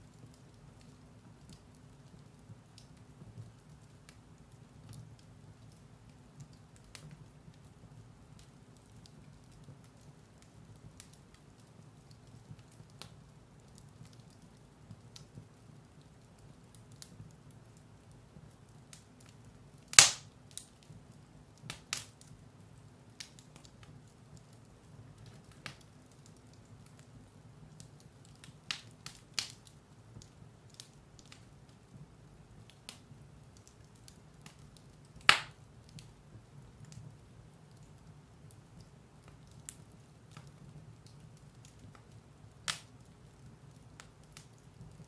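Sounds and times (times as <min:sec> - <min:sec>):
firewood crackling and popping: 0:00.0 - 0:45.0
low steady fire rumble: 0:00.0 - 0:45.0.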